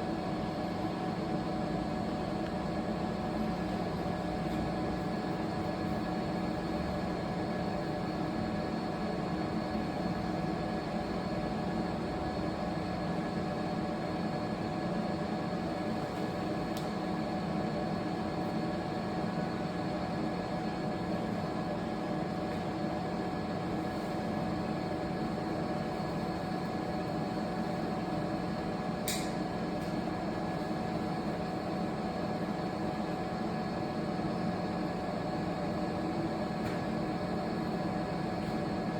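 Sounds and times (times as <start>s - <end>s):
laser engraving machine hum: 0.0s - 38.9s.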